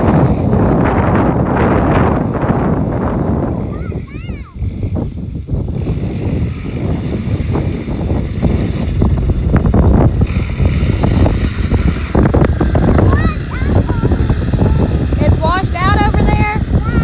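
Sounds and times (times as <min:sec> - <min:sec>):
vehicle engine rumble: 0:00.0 - 0:17.0
wind buffeting microphone: 0:00.0 - 0:17.0.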